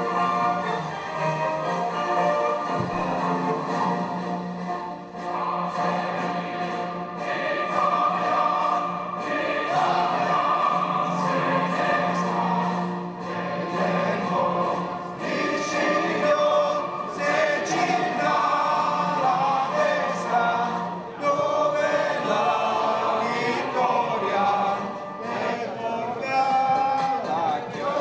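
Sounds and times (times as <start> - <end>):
choir singing long notes: 0.0 - 28.0.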